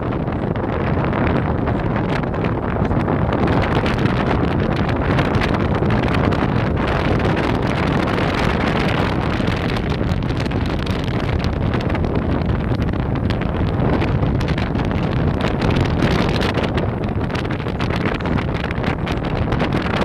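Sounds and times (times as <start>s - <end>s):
boat engine: 0.0s - 20.0s
churning water: 0.0s - 20.0s
wind buffeting microphone: 0.0s - 20.0s.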